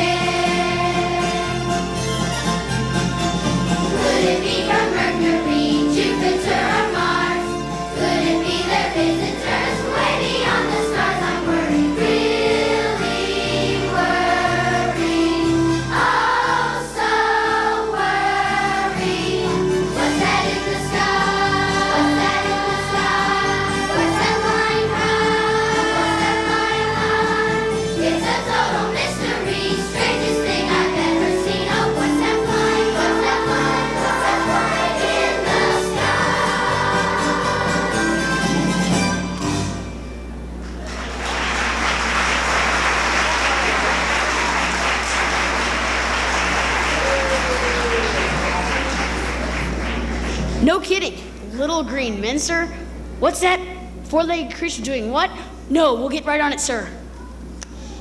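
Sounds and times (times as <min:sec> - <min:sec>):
children's choir singing: 0:00.0 - 0:39.2, 0:41.3 - 0:50.5
instrumental accompaniment: 0:00.0 - 0:47.1.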